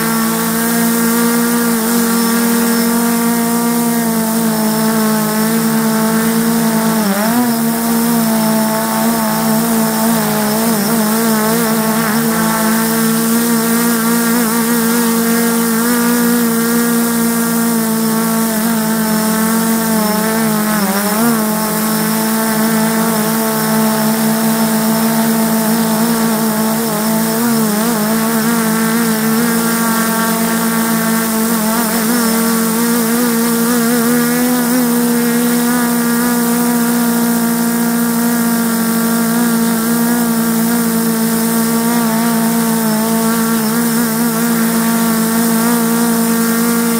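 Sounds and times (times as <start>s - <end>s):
drone motors humming: 0.0s - 46.9s
steady hiss: 0.0s - 46.9s.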